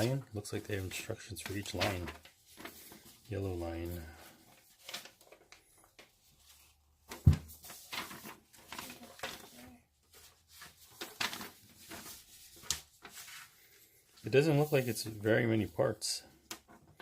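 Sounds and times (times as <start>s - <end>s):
paper rustling and crackling: 0.0s - 17.0s.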